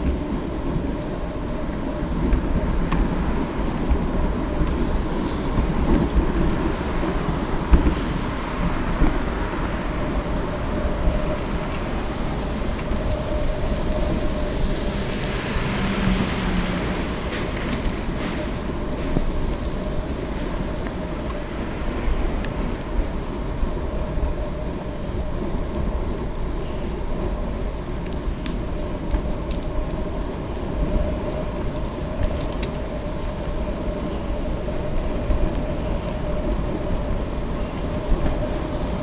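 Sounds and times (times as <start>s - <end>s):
bicycle tyres hissing on wet asphalt: 0.0s - 39.0s
wind rumble on microphone: 0.0s - 39.0s.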